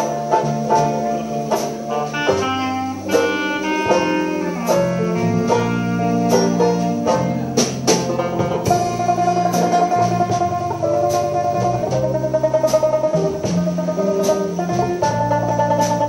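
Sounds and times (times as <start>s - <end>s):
clarinet melody: 0.0s - 16.0s
sharp drum and banjo strokes: 0.0s - 16.0s
traditional jazz band playing: 0.0s - 16.0s.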